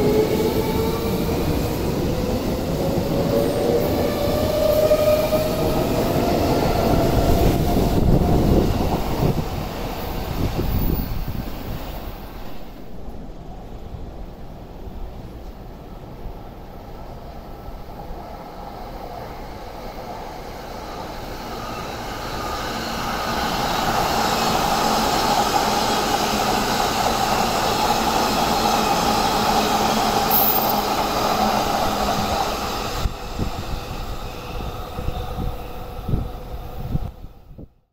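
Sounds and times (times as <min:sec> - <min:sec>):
electric train passing: 0:00.0 - 0:37.3.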